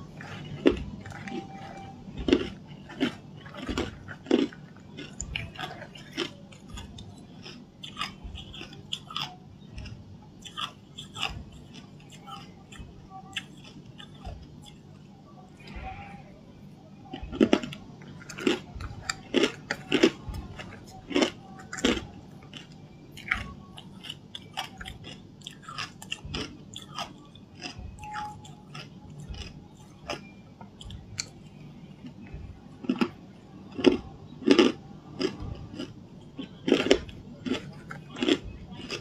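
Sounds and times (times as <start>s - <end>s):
ice being chewed: 0.0s - 16.1s, 17.1s - 39.0s.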